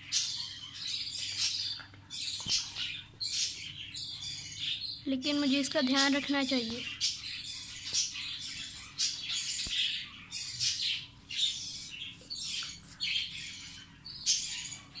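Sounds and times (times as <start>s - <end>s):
parrots squawking and chirping: 0.0s - 15.0s.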